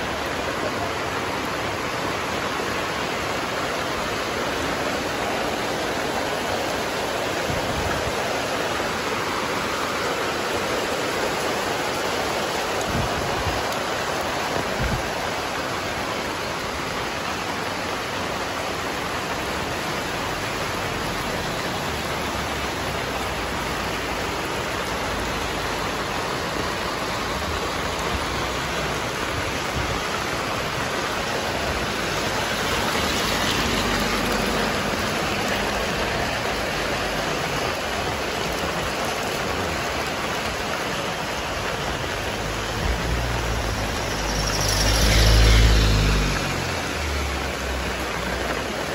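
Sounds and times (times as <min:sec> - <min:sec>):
heavy rain on street and roofs: 0:00.0 - 0:48.9.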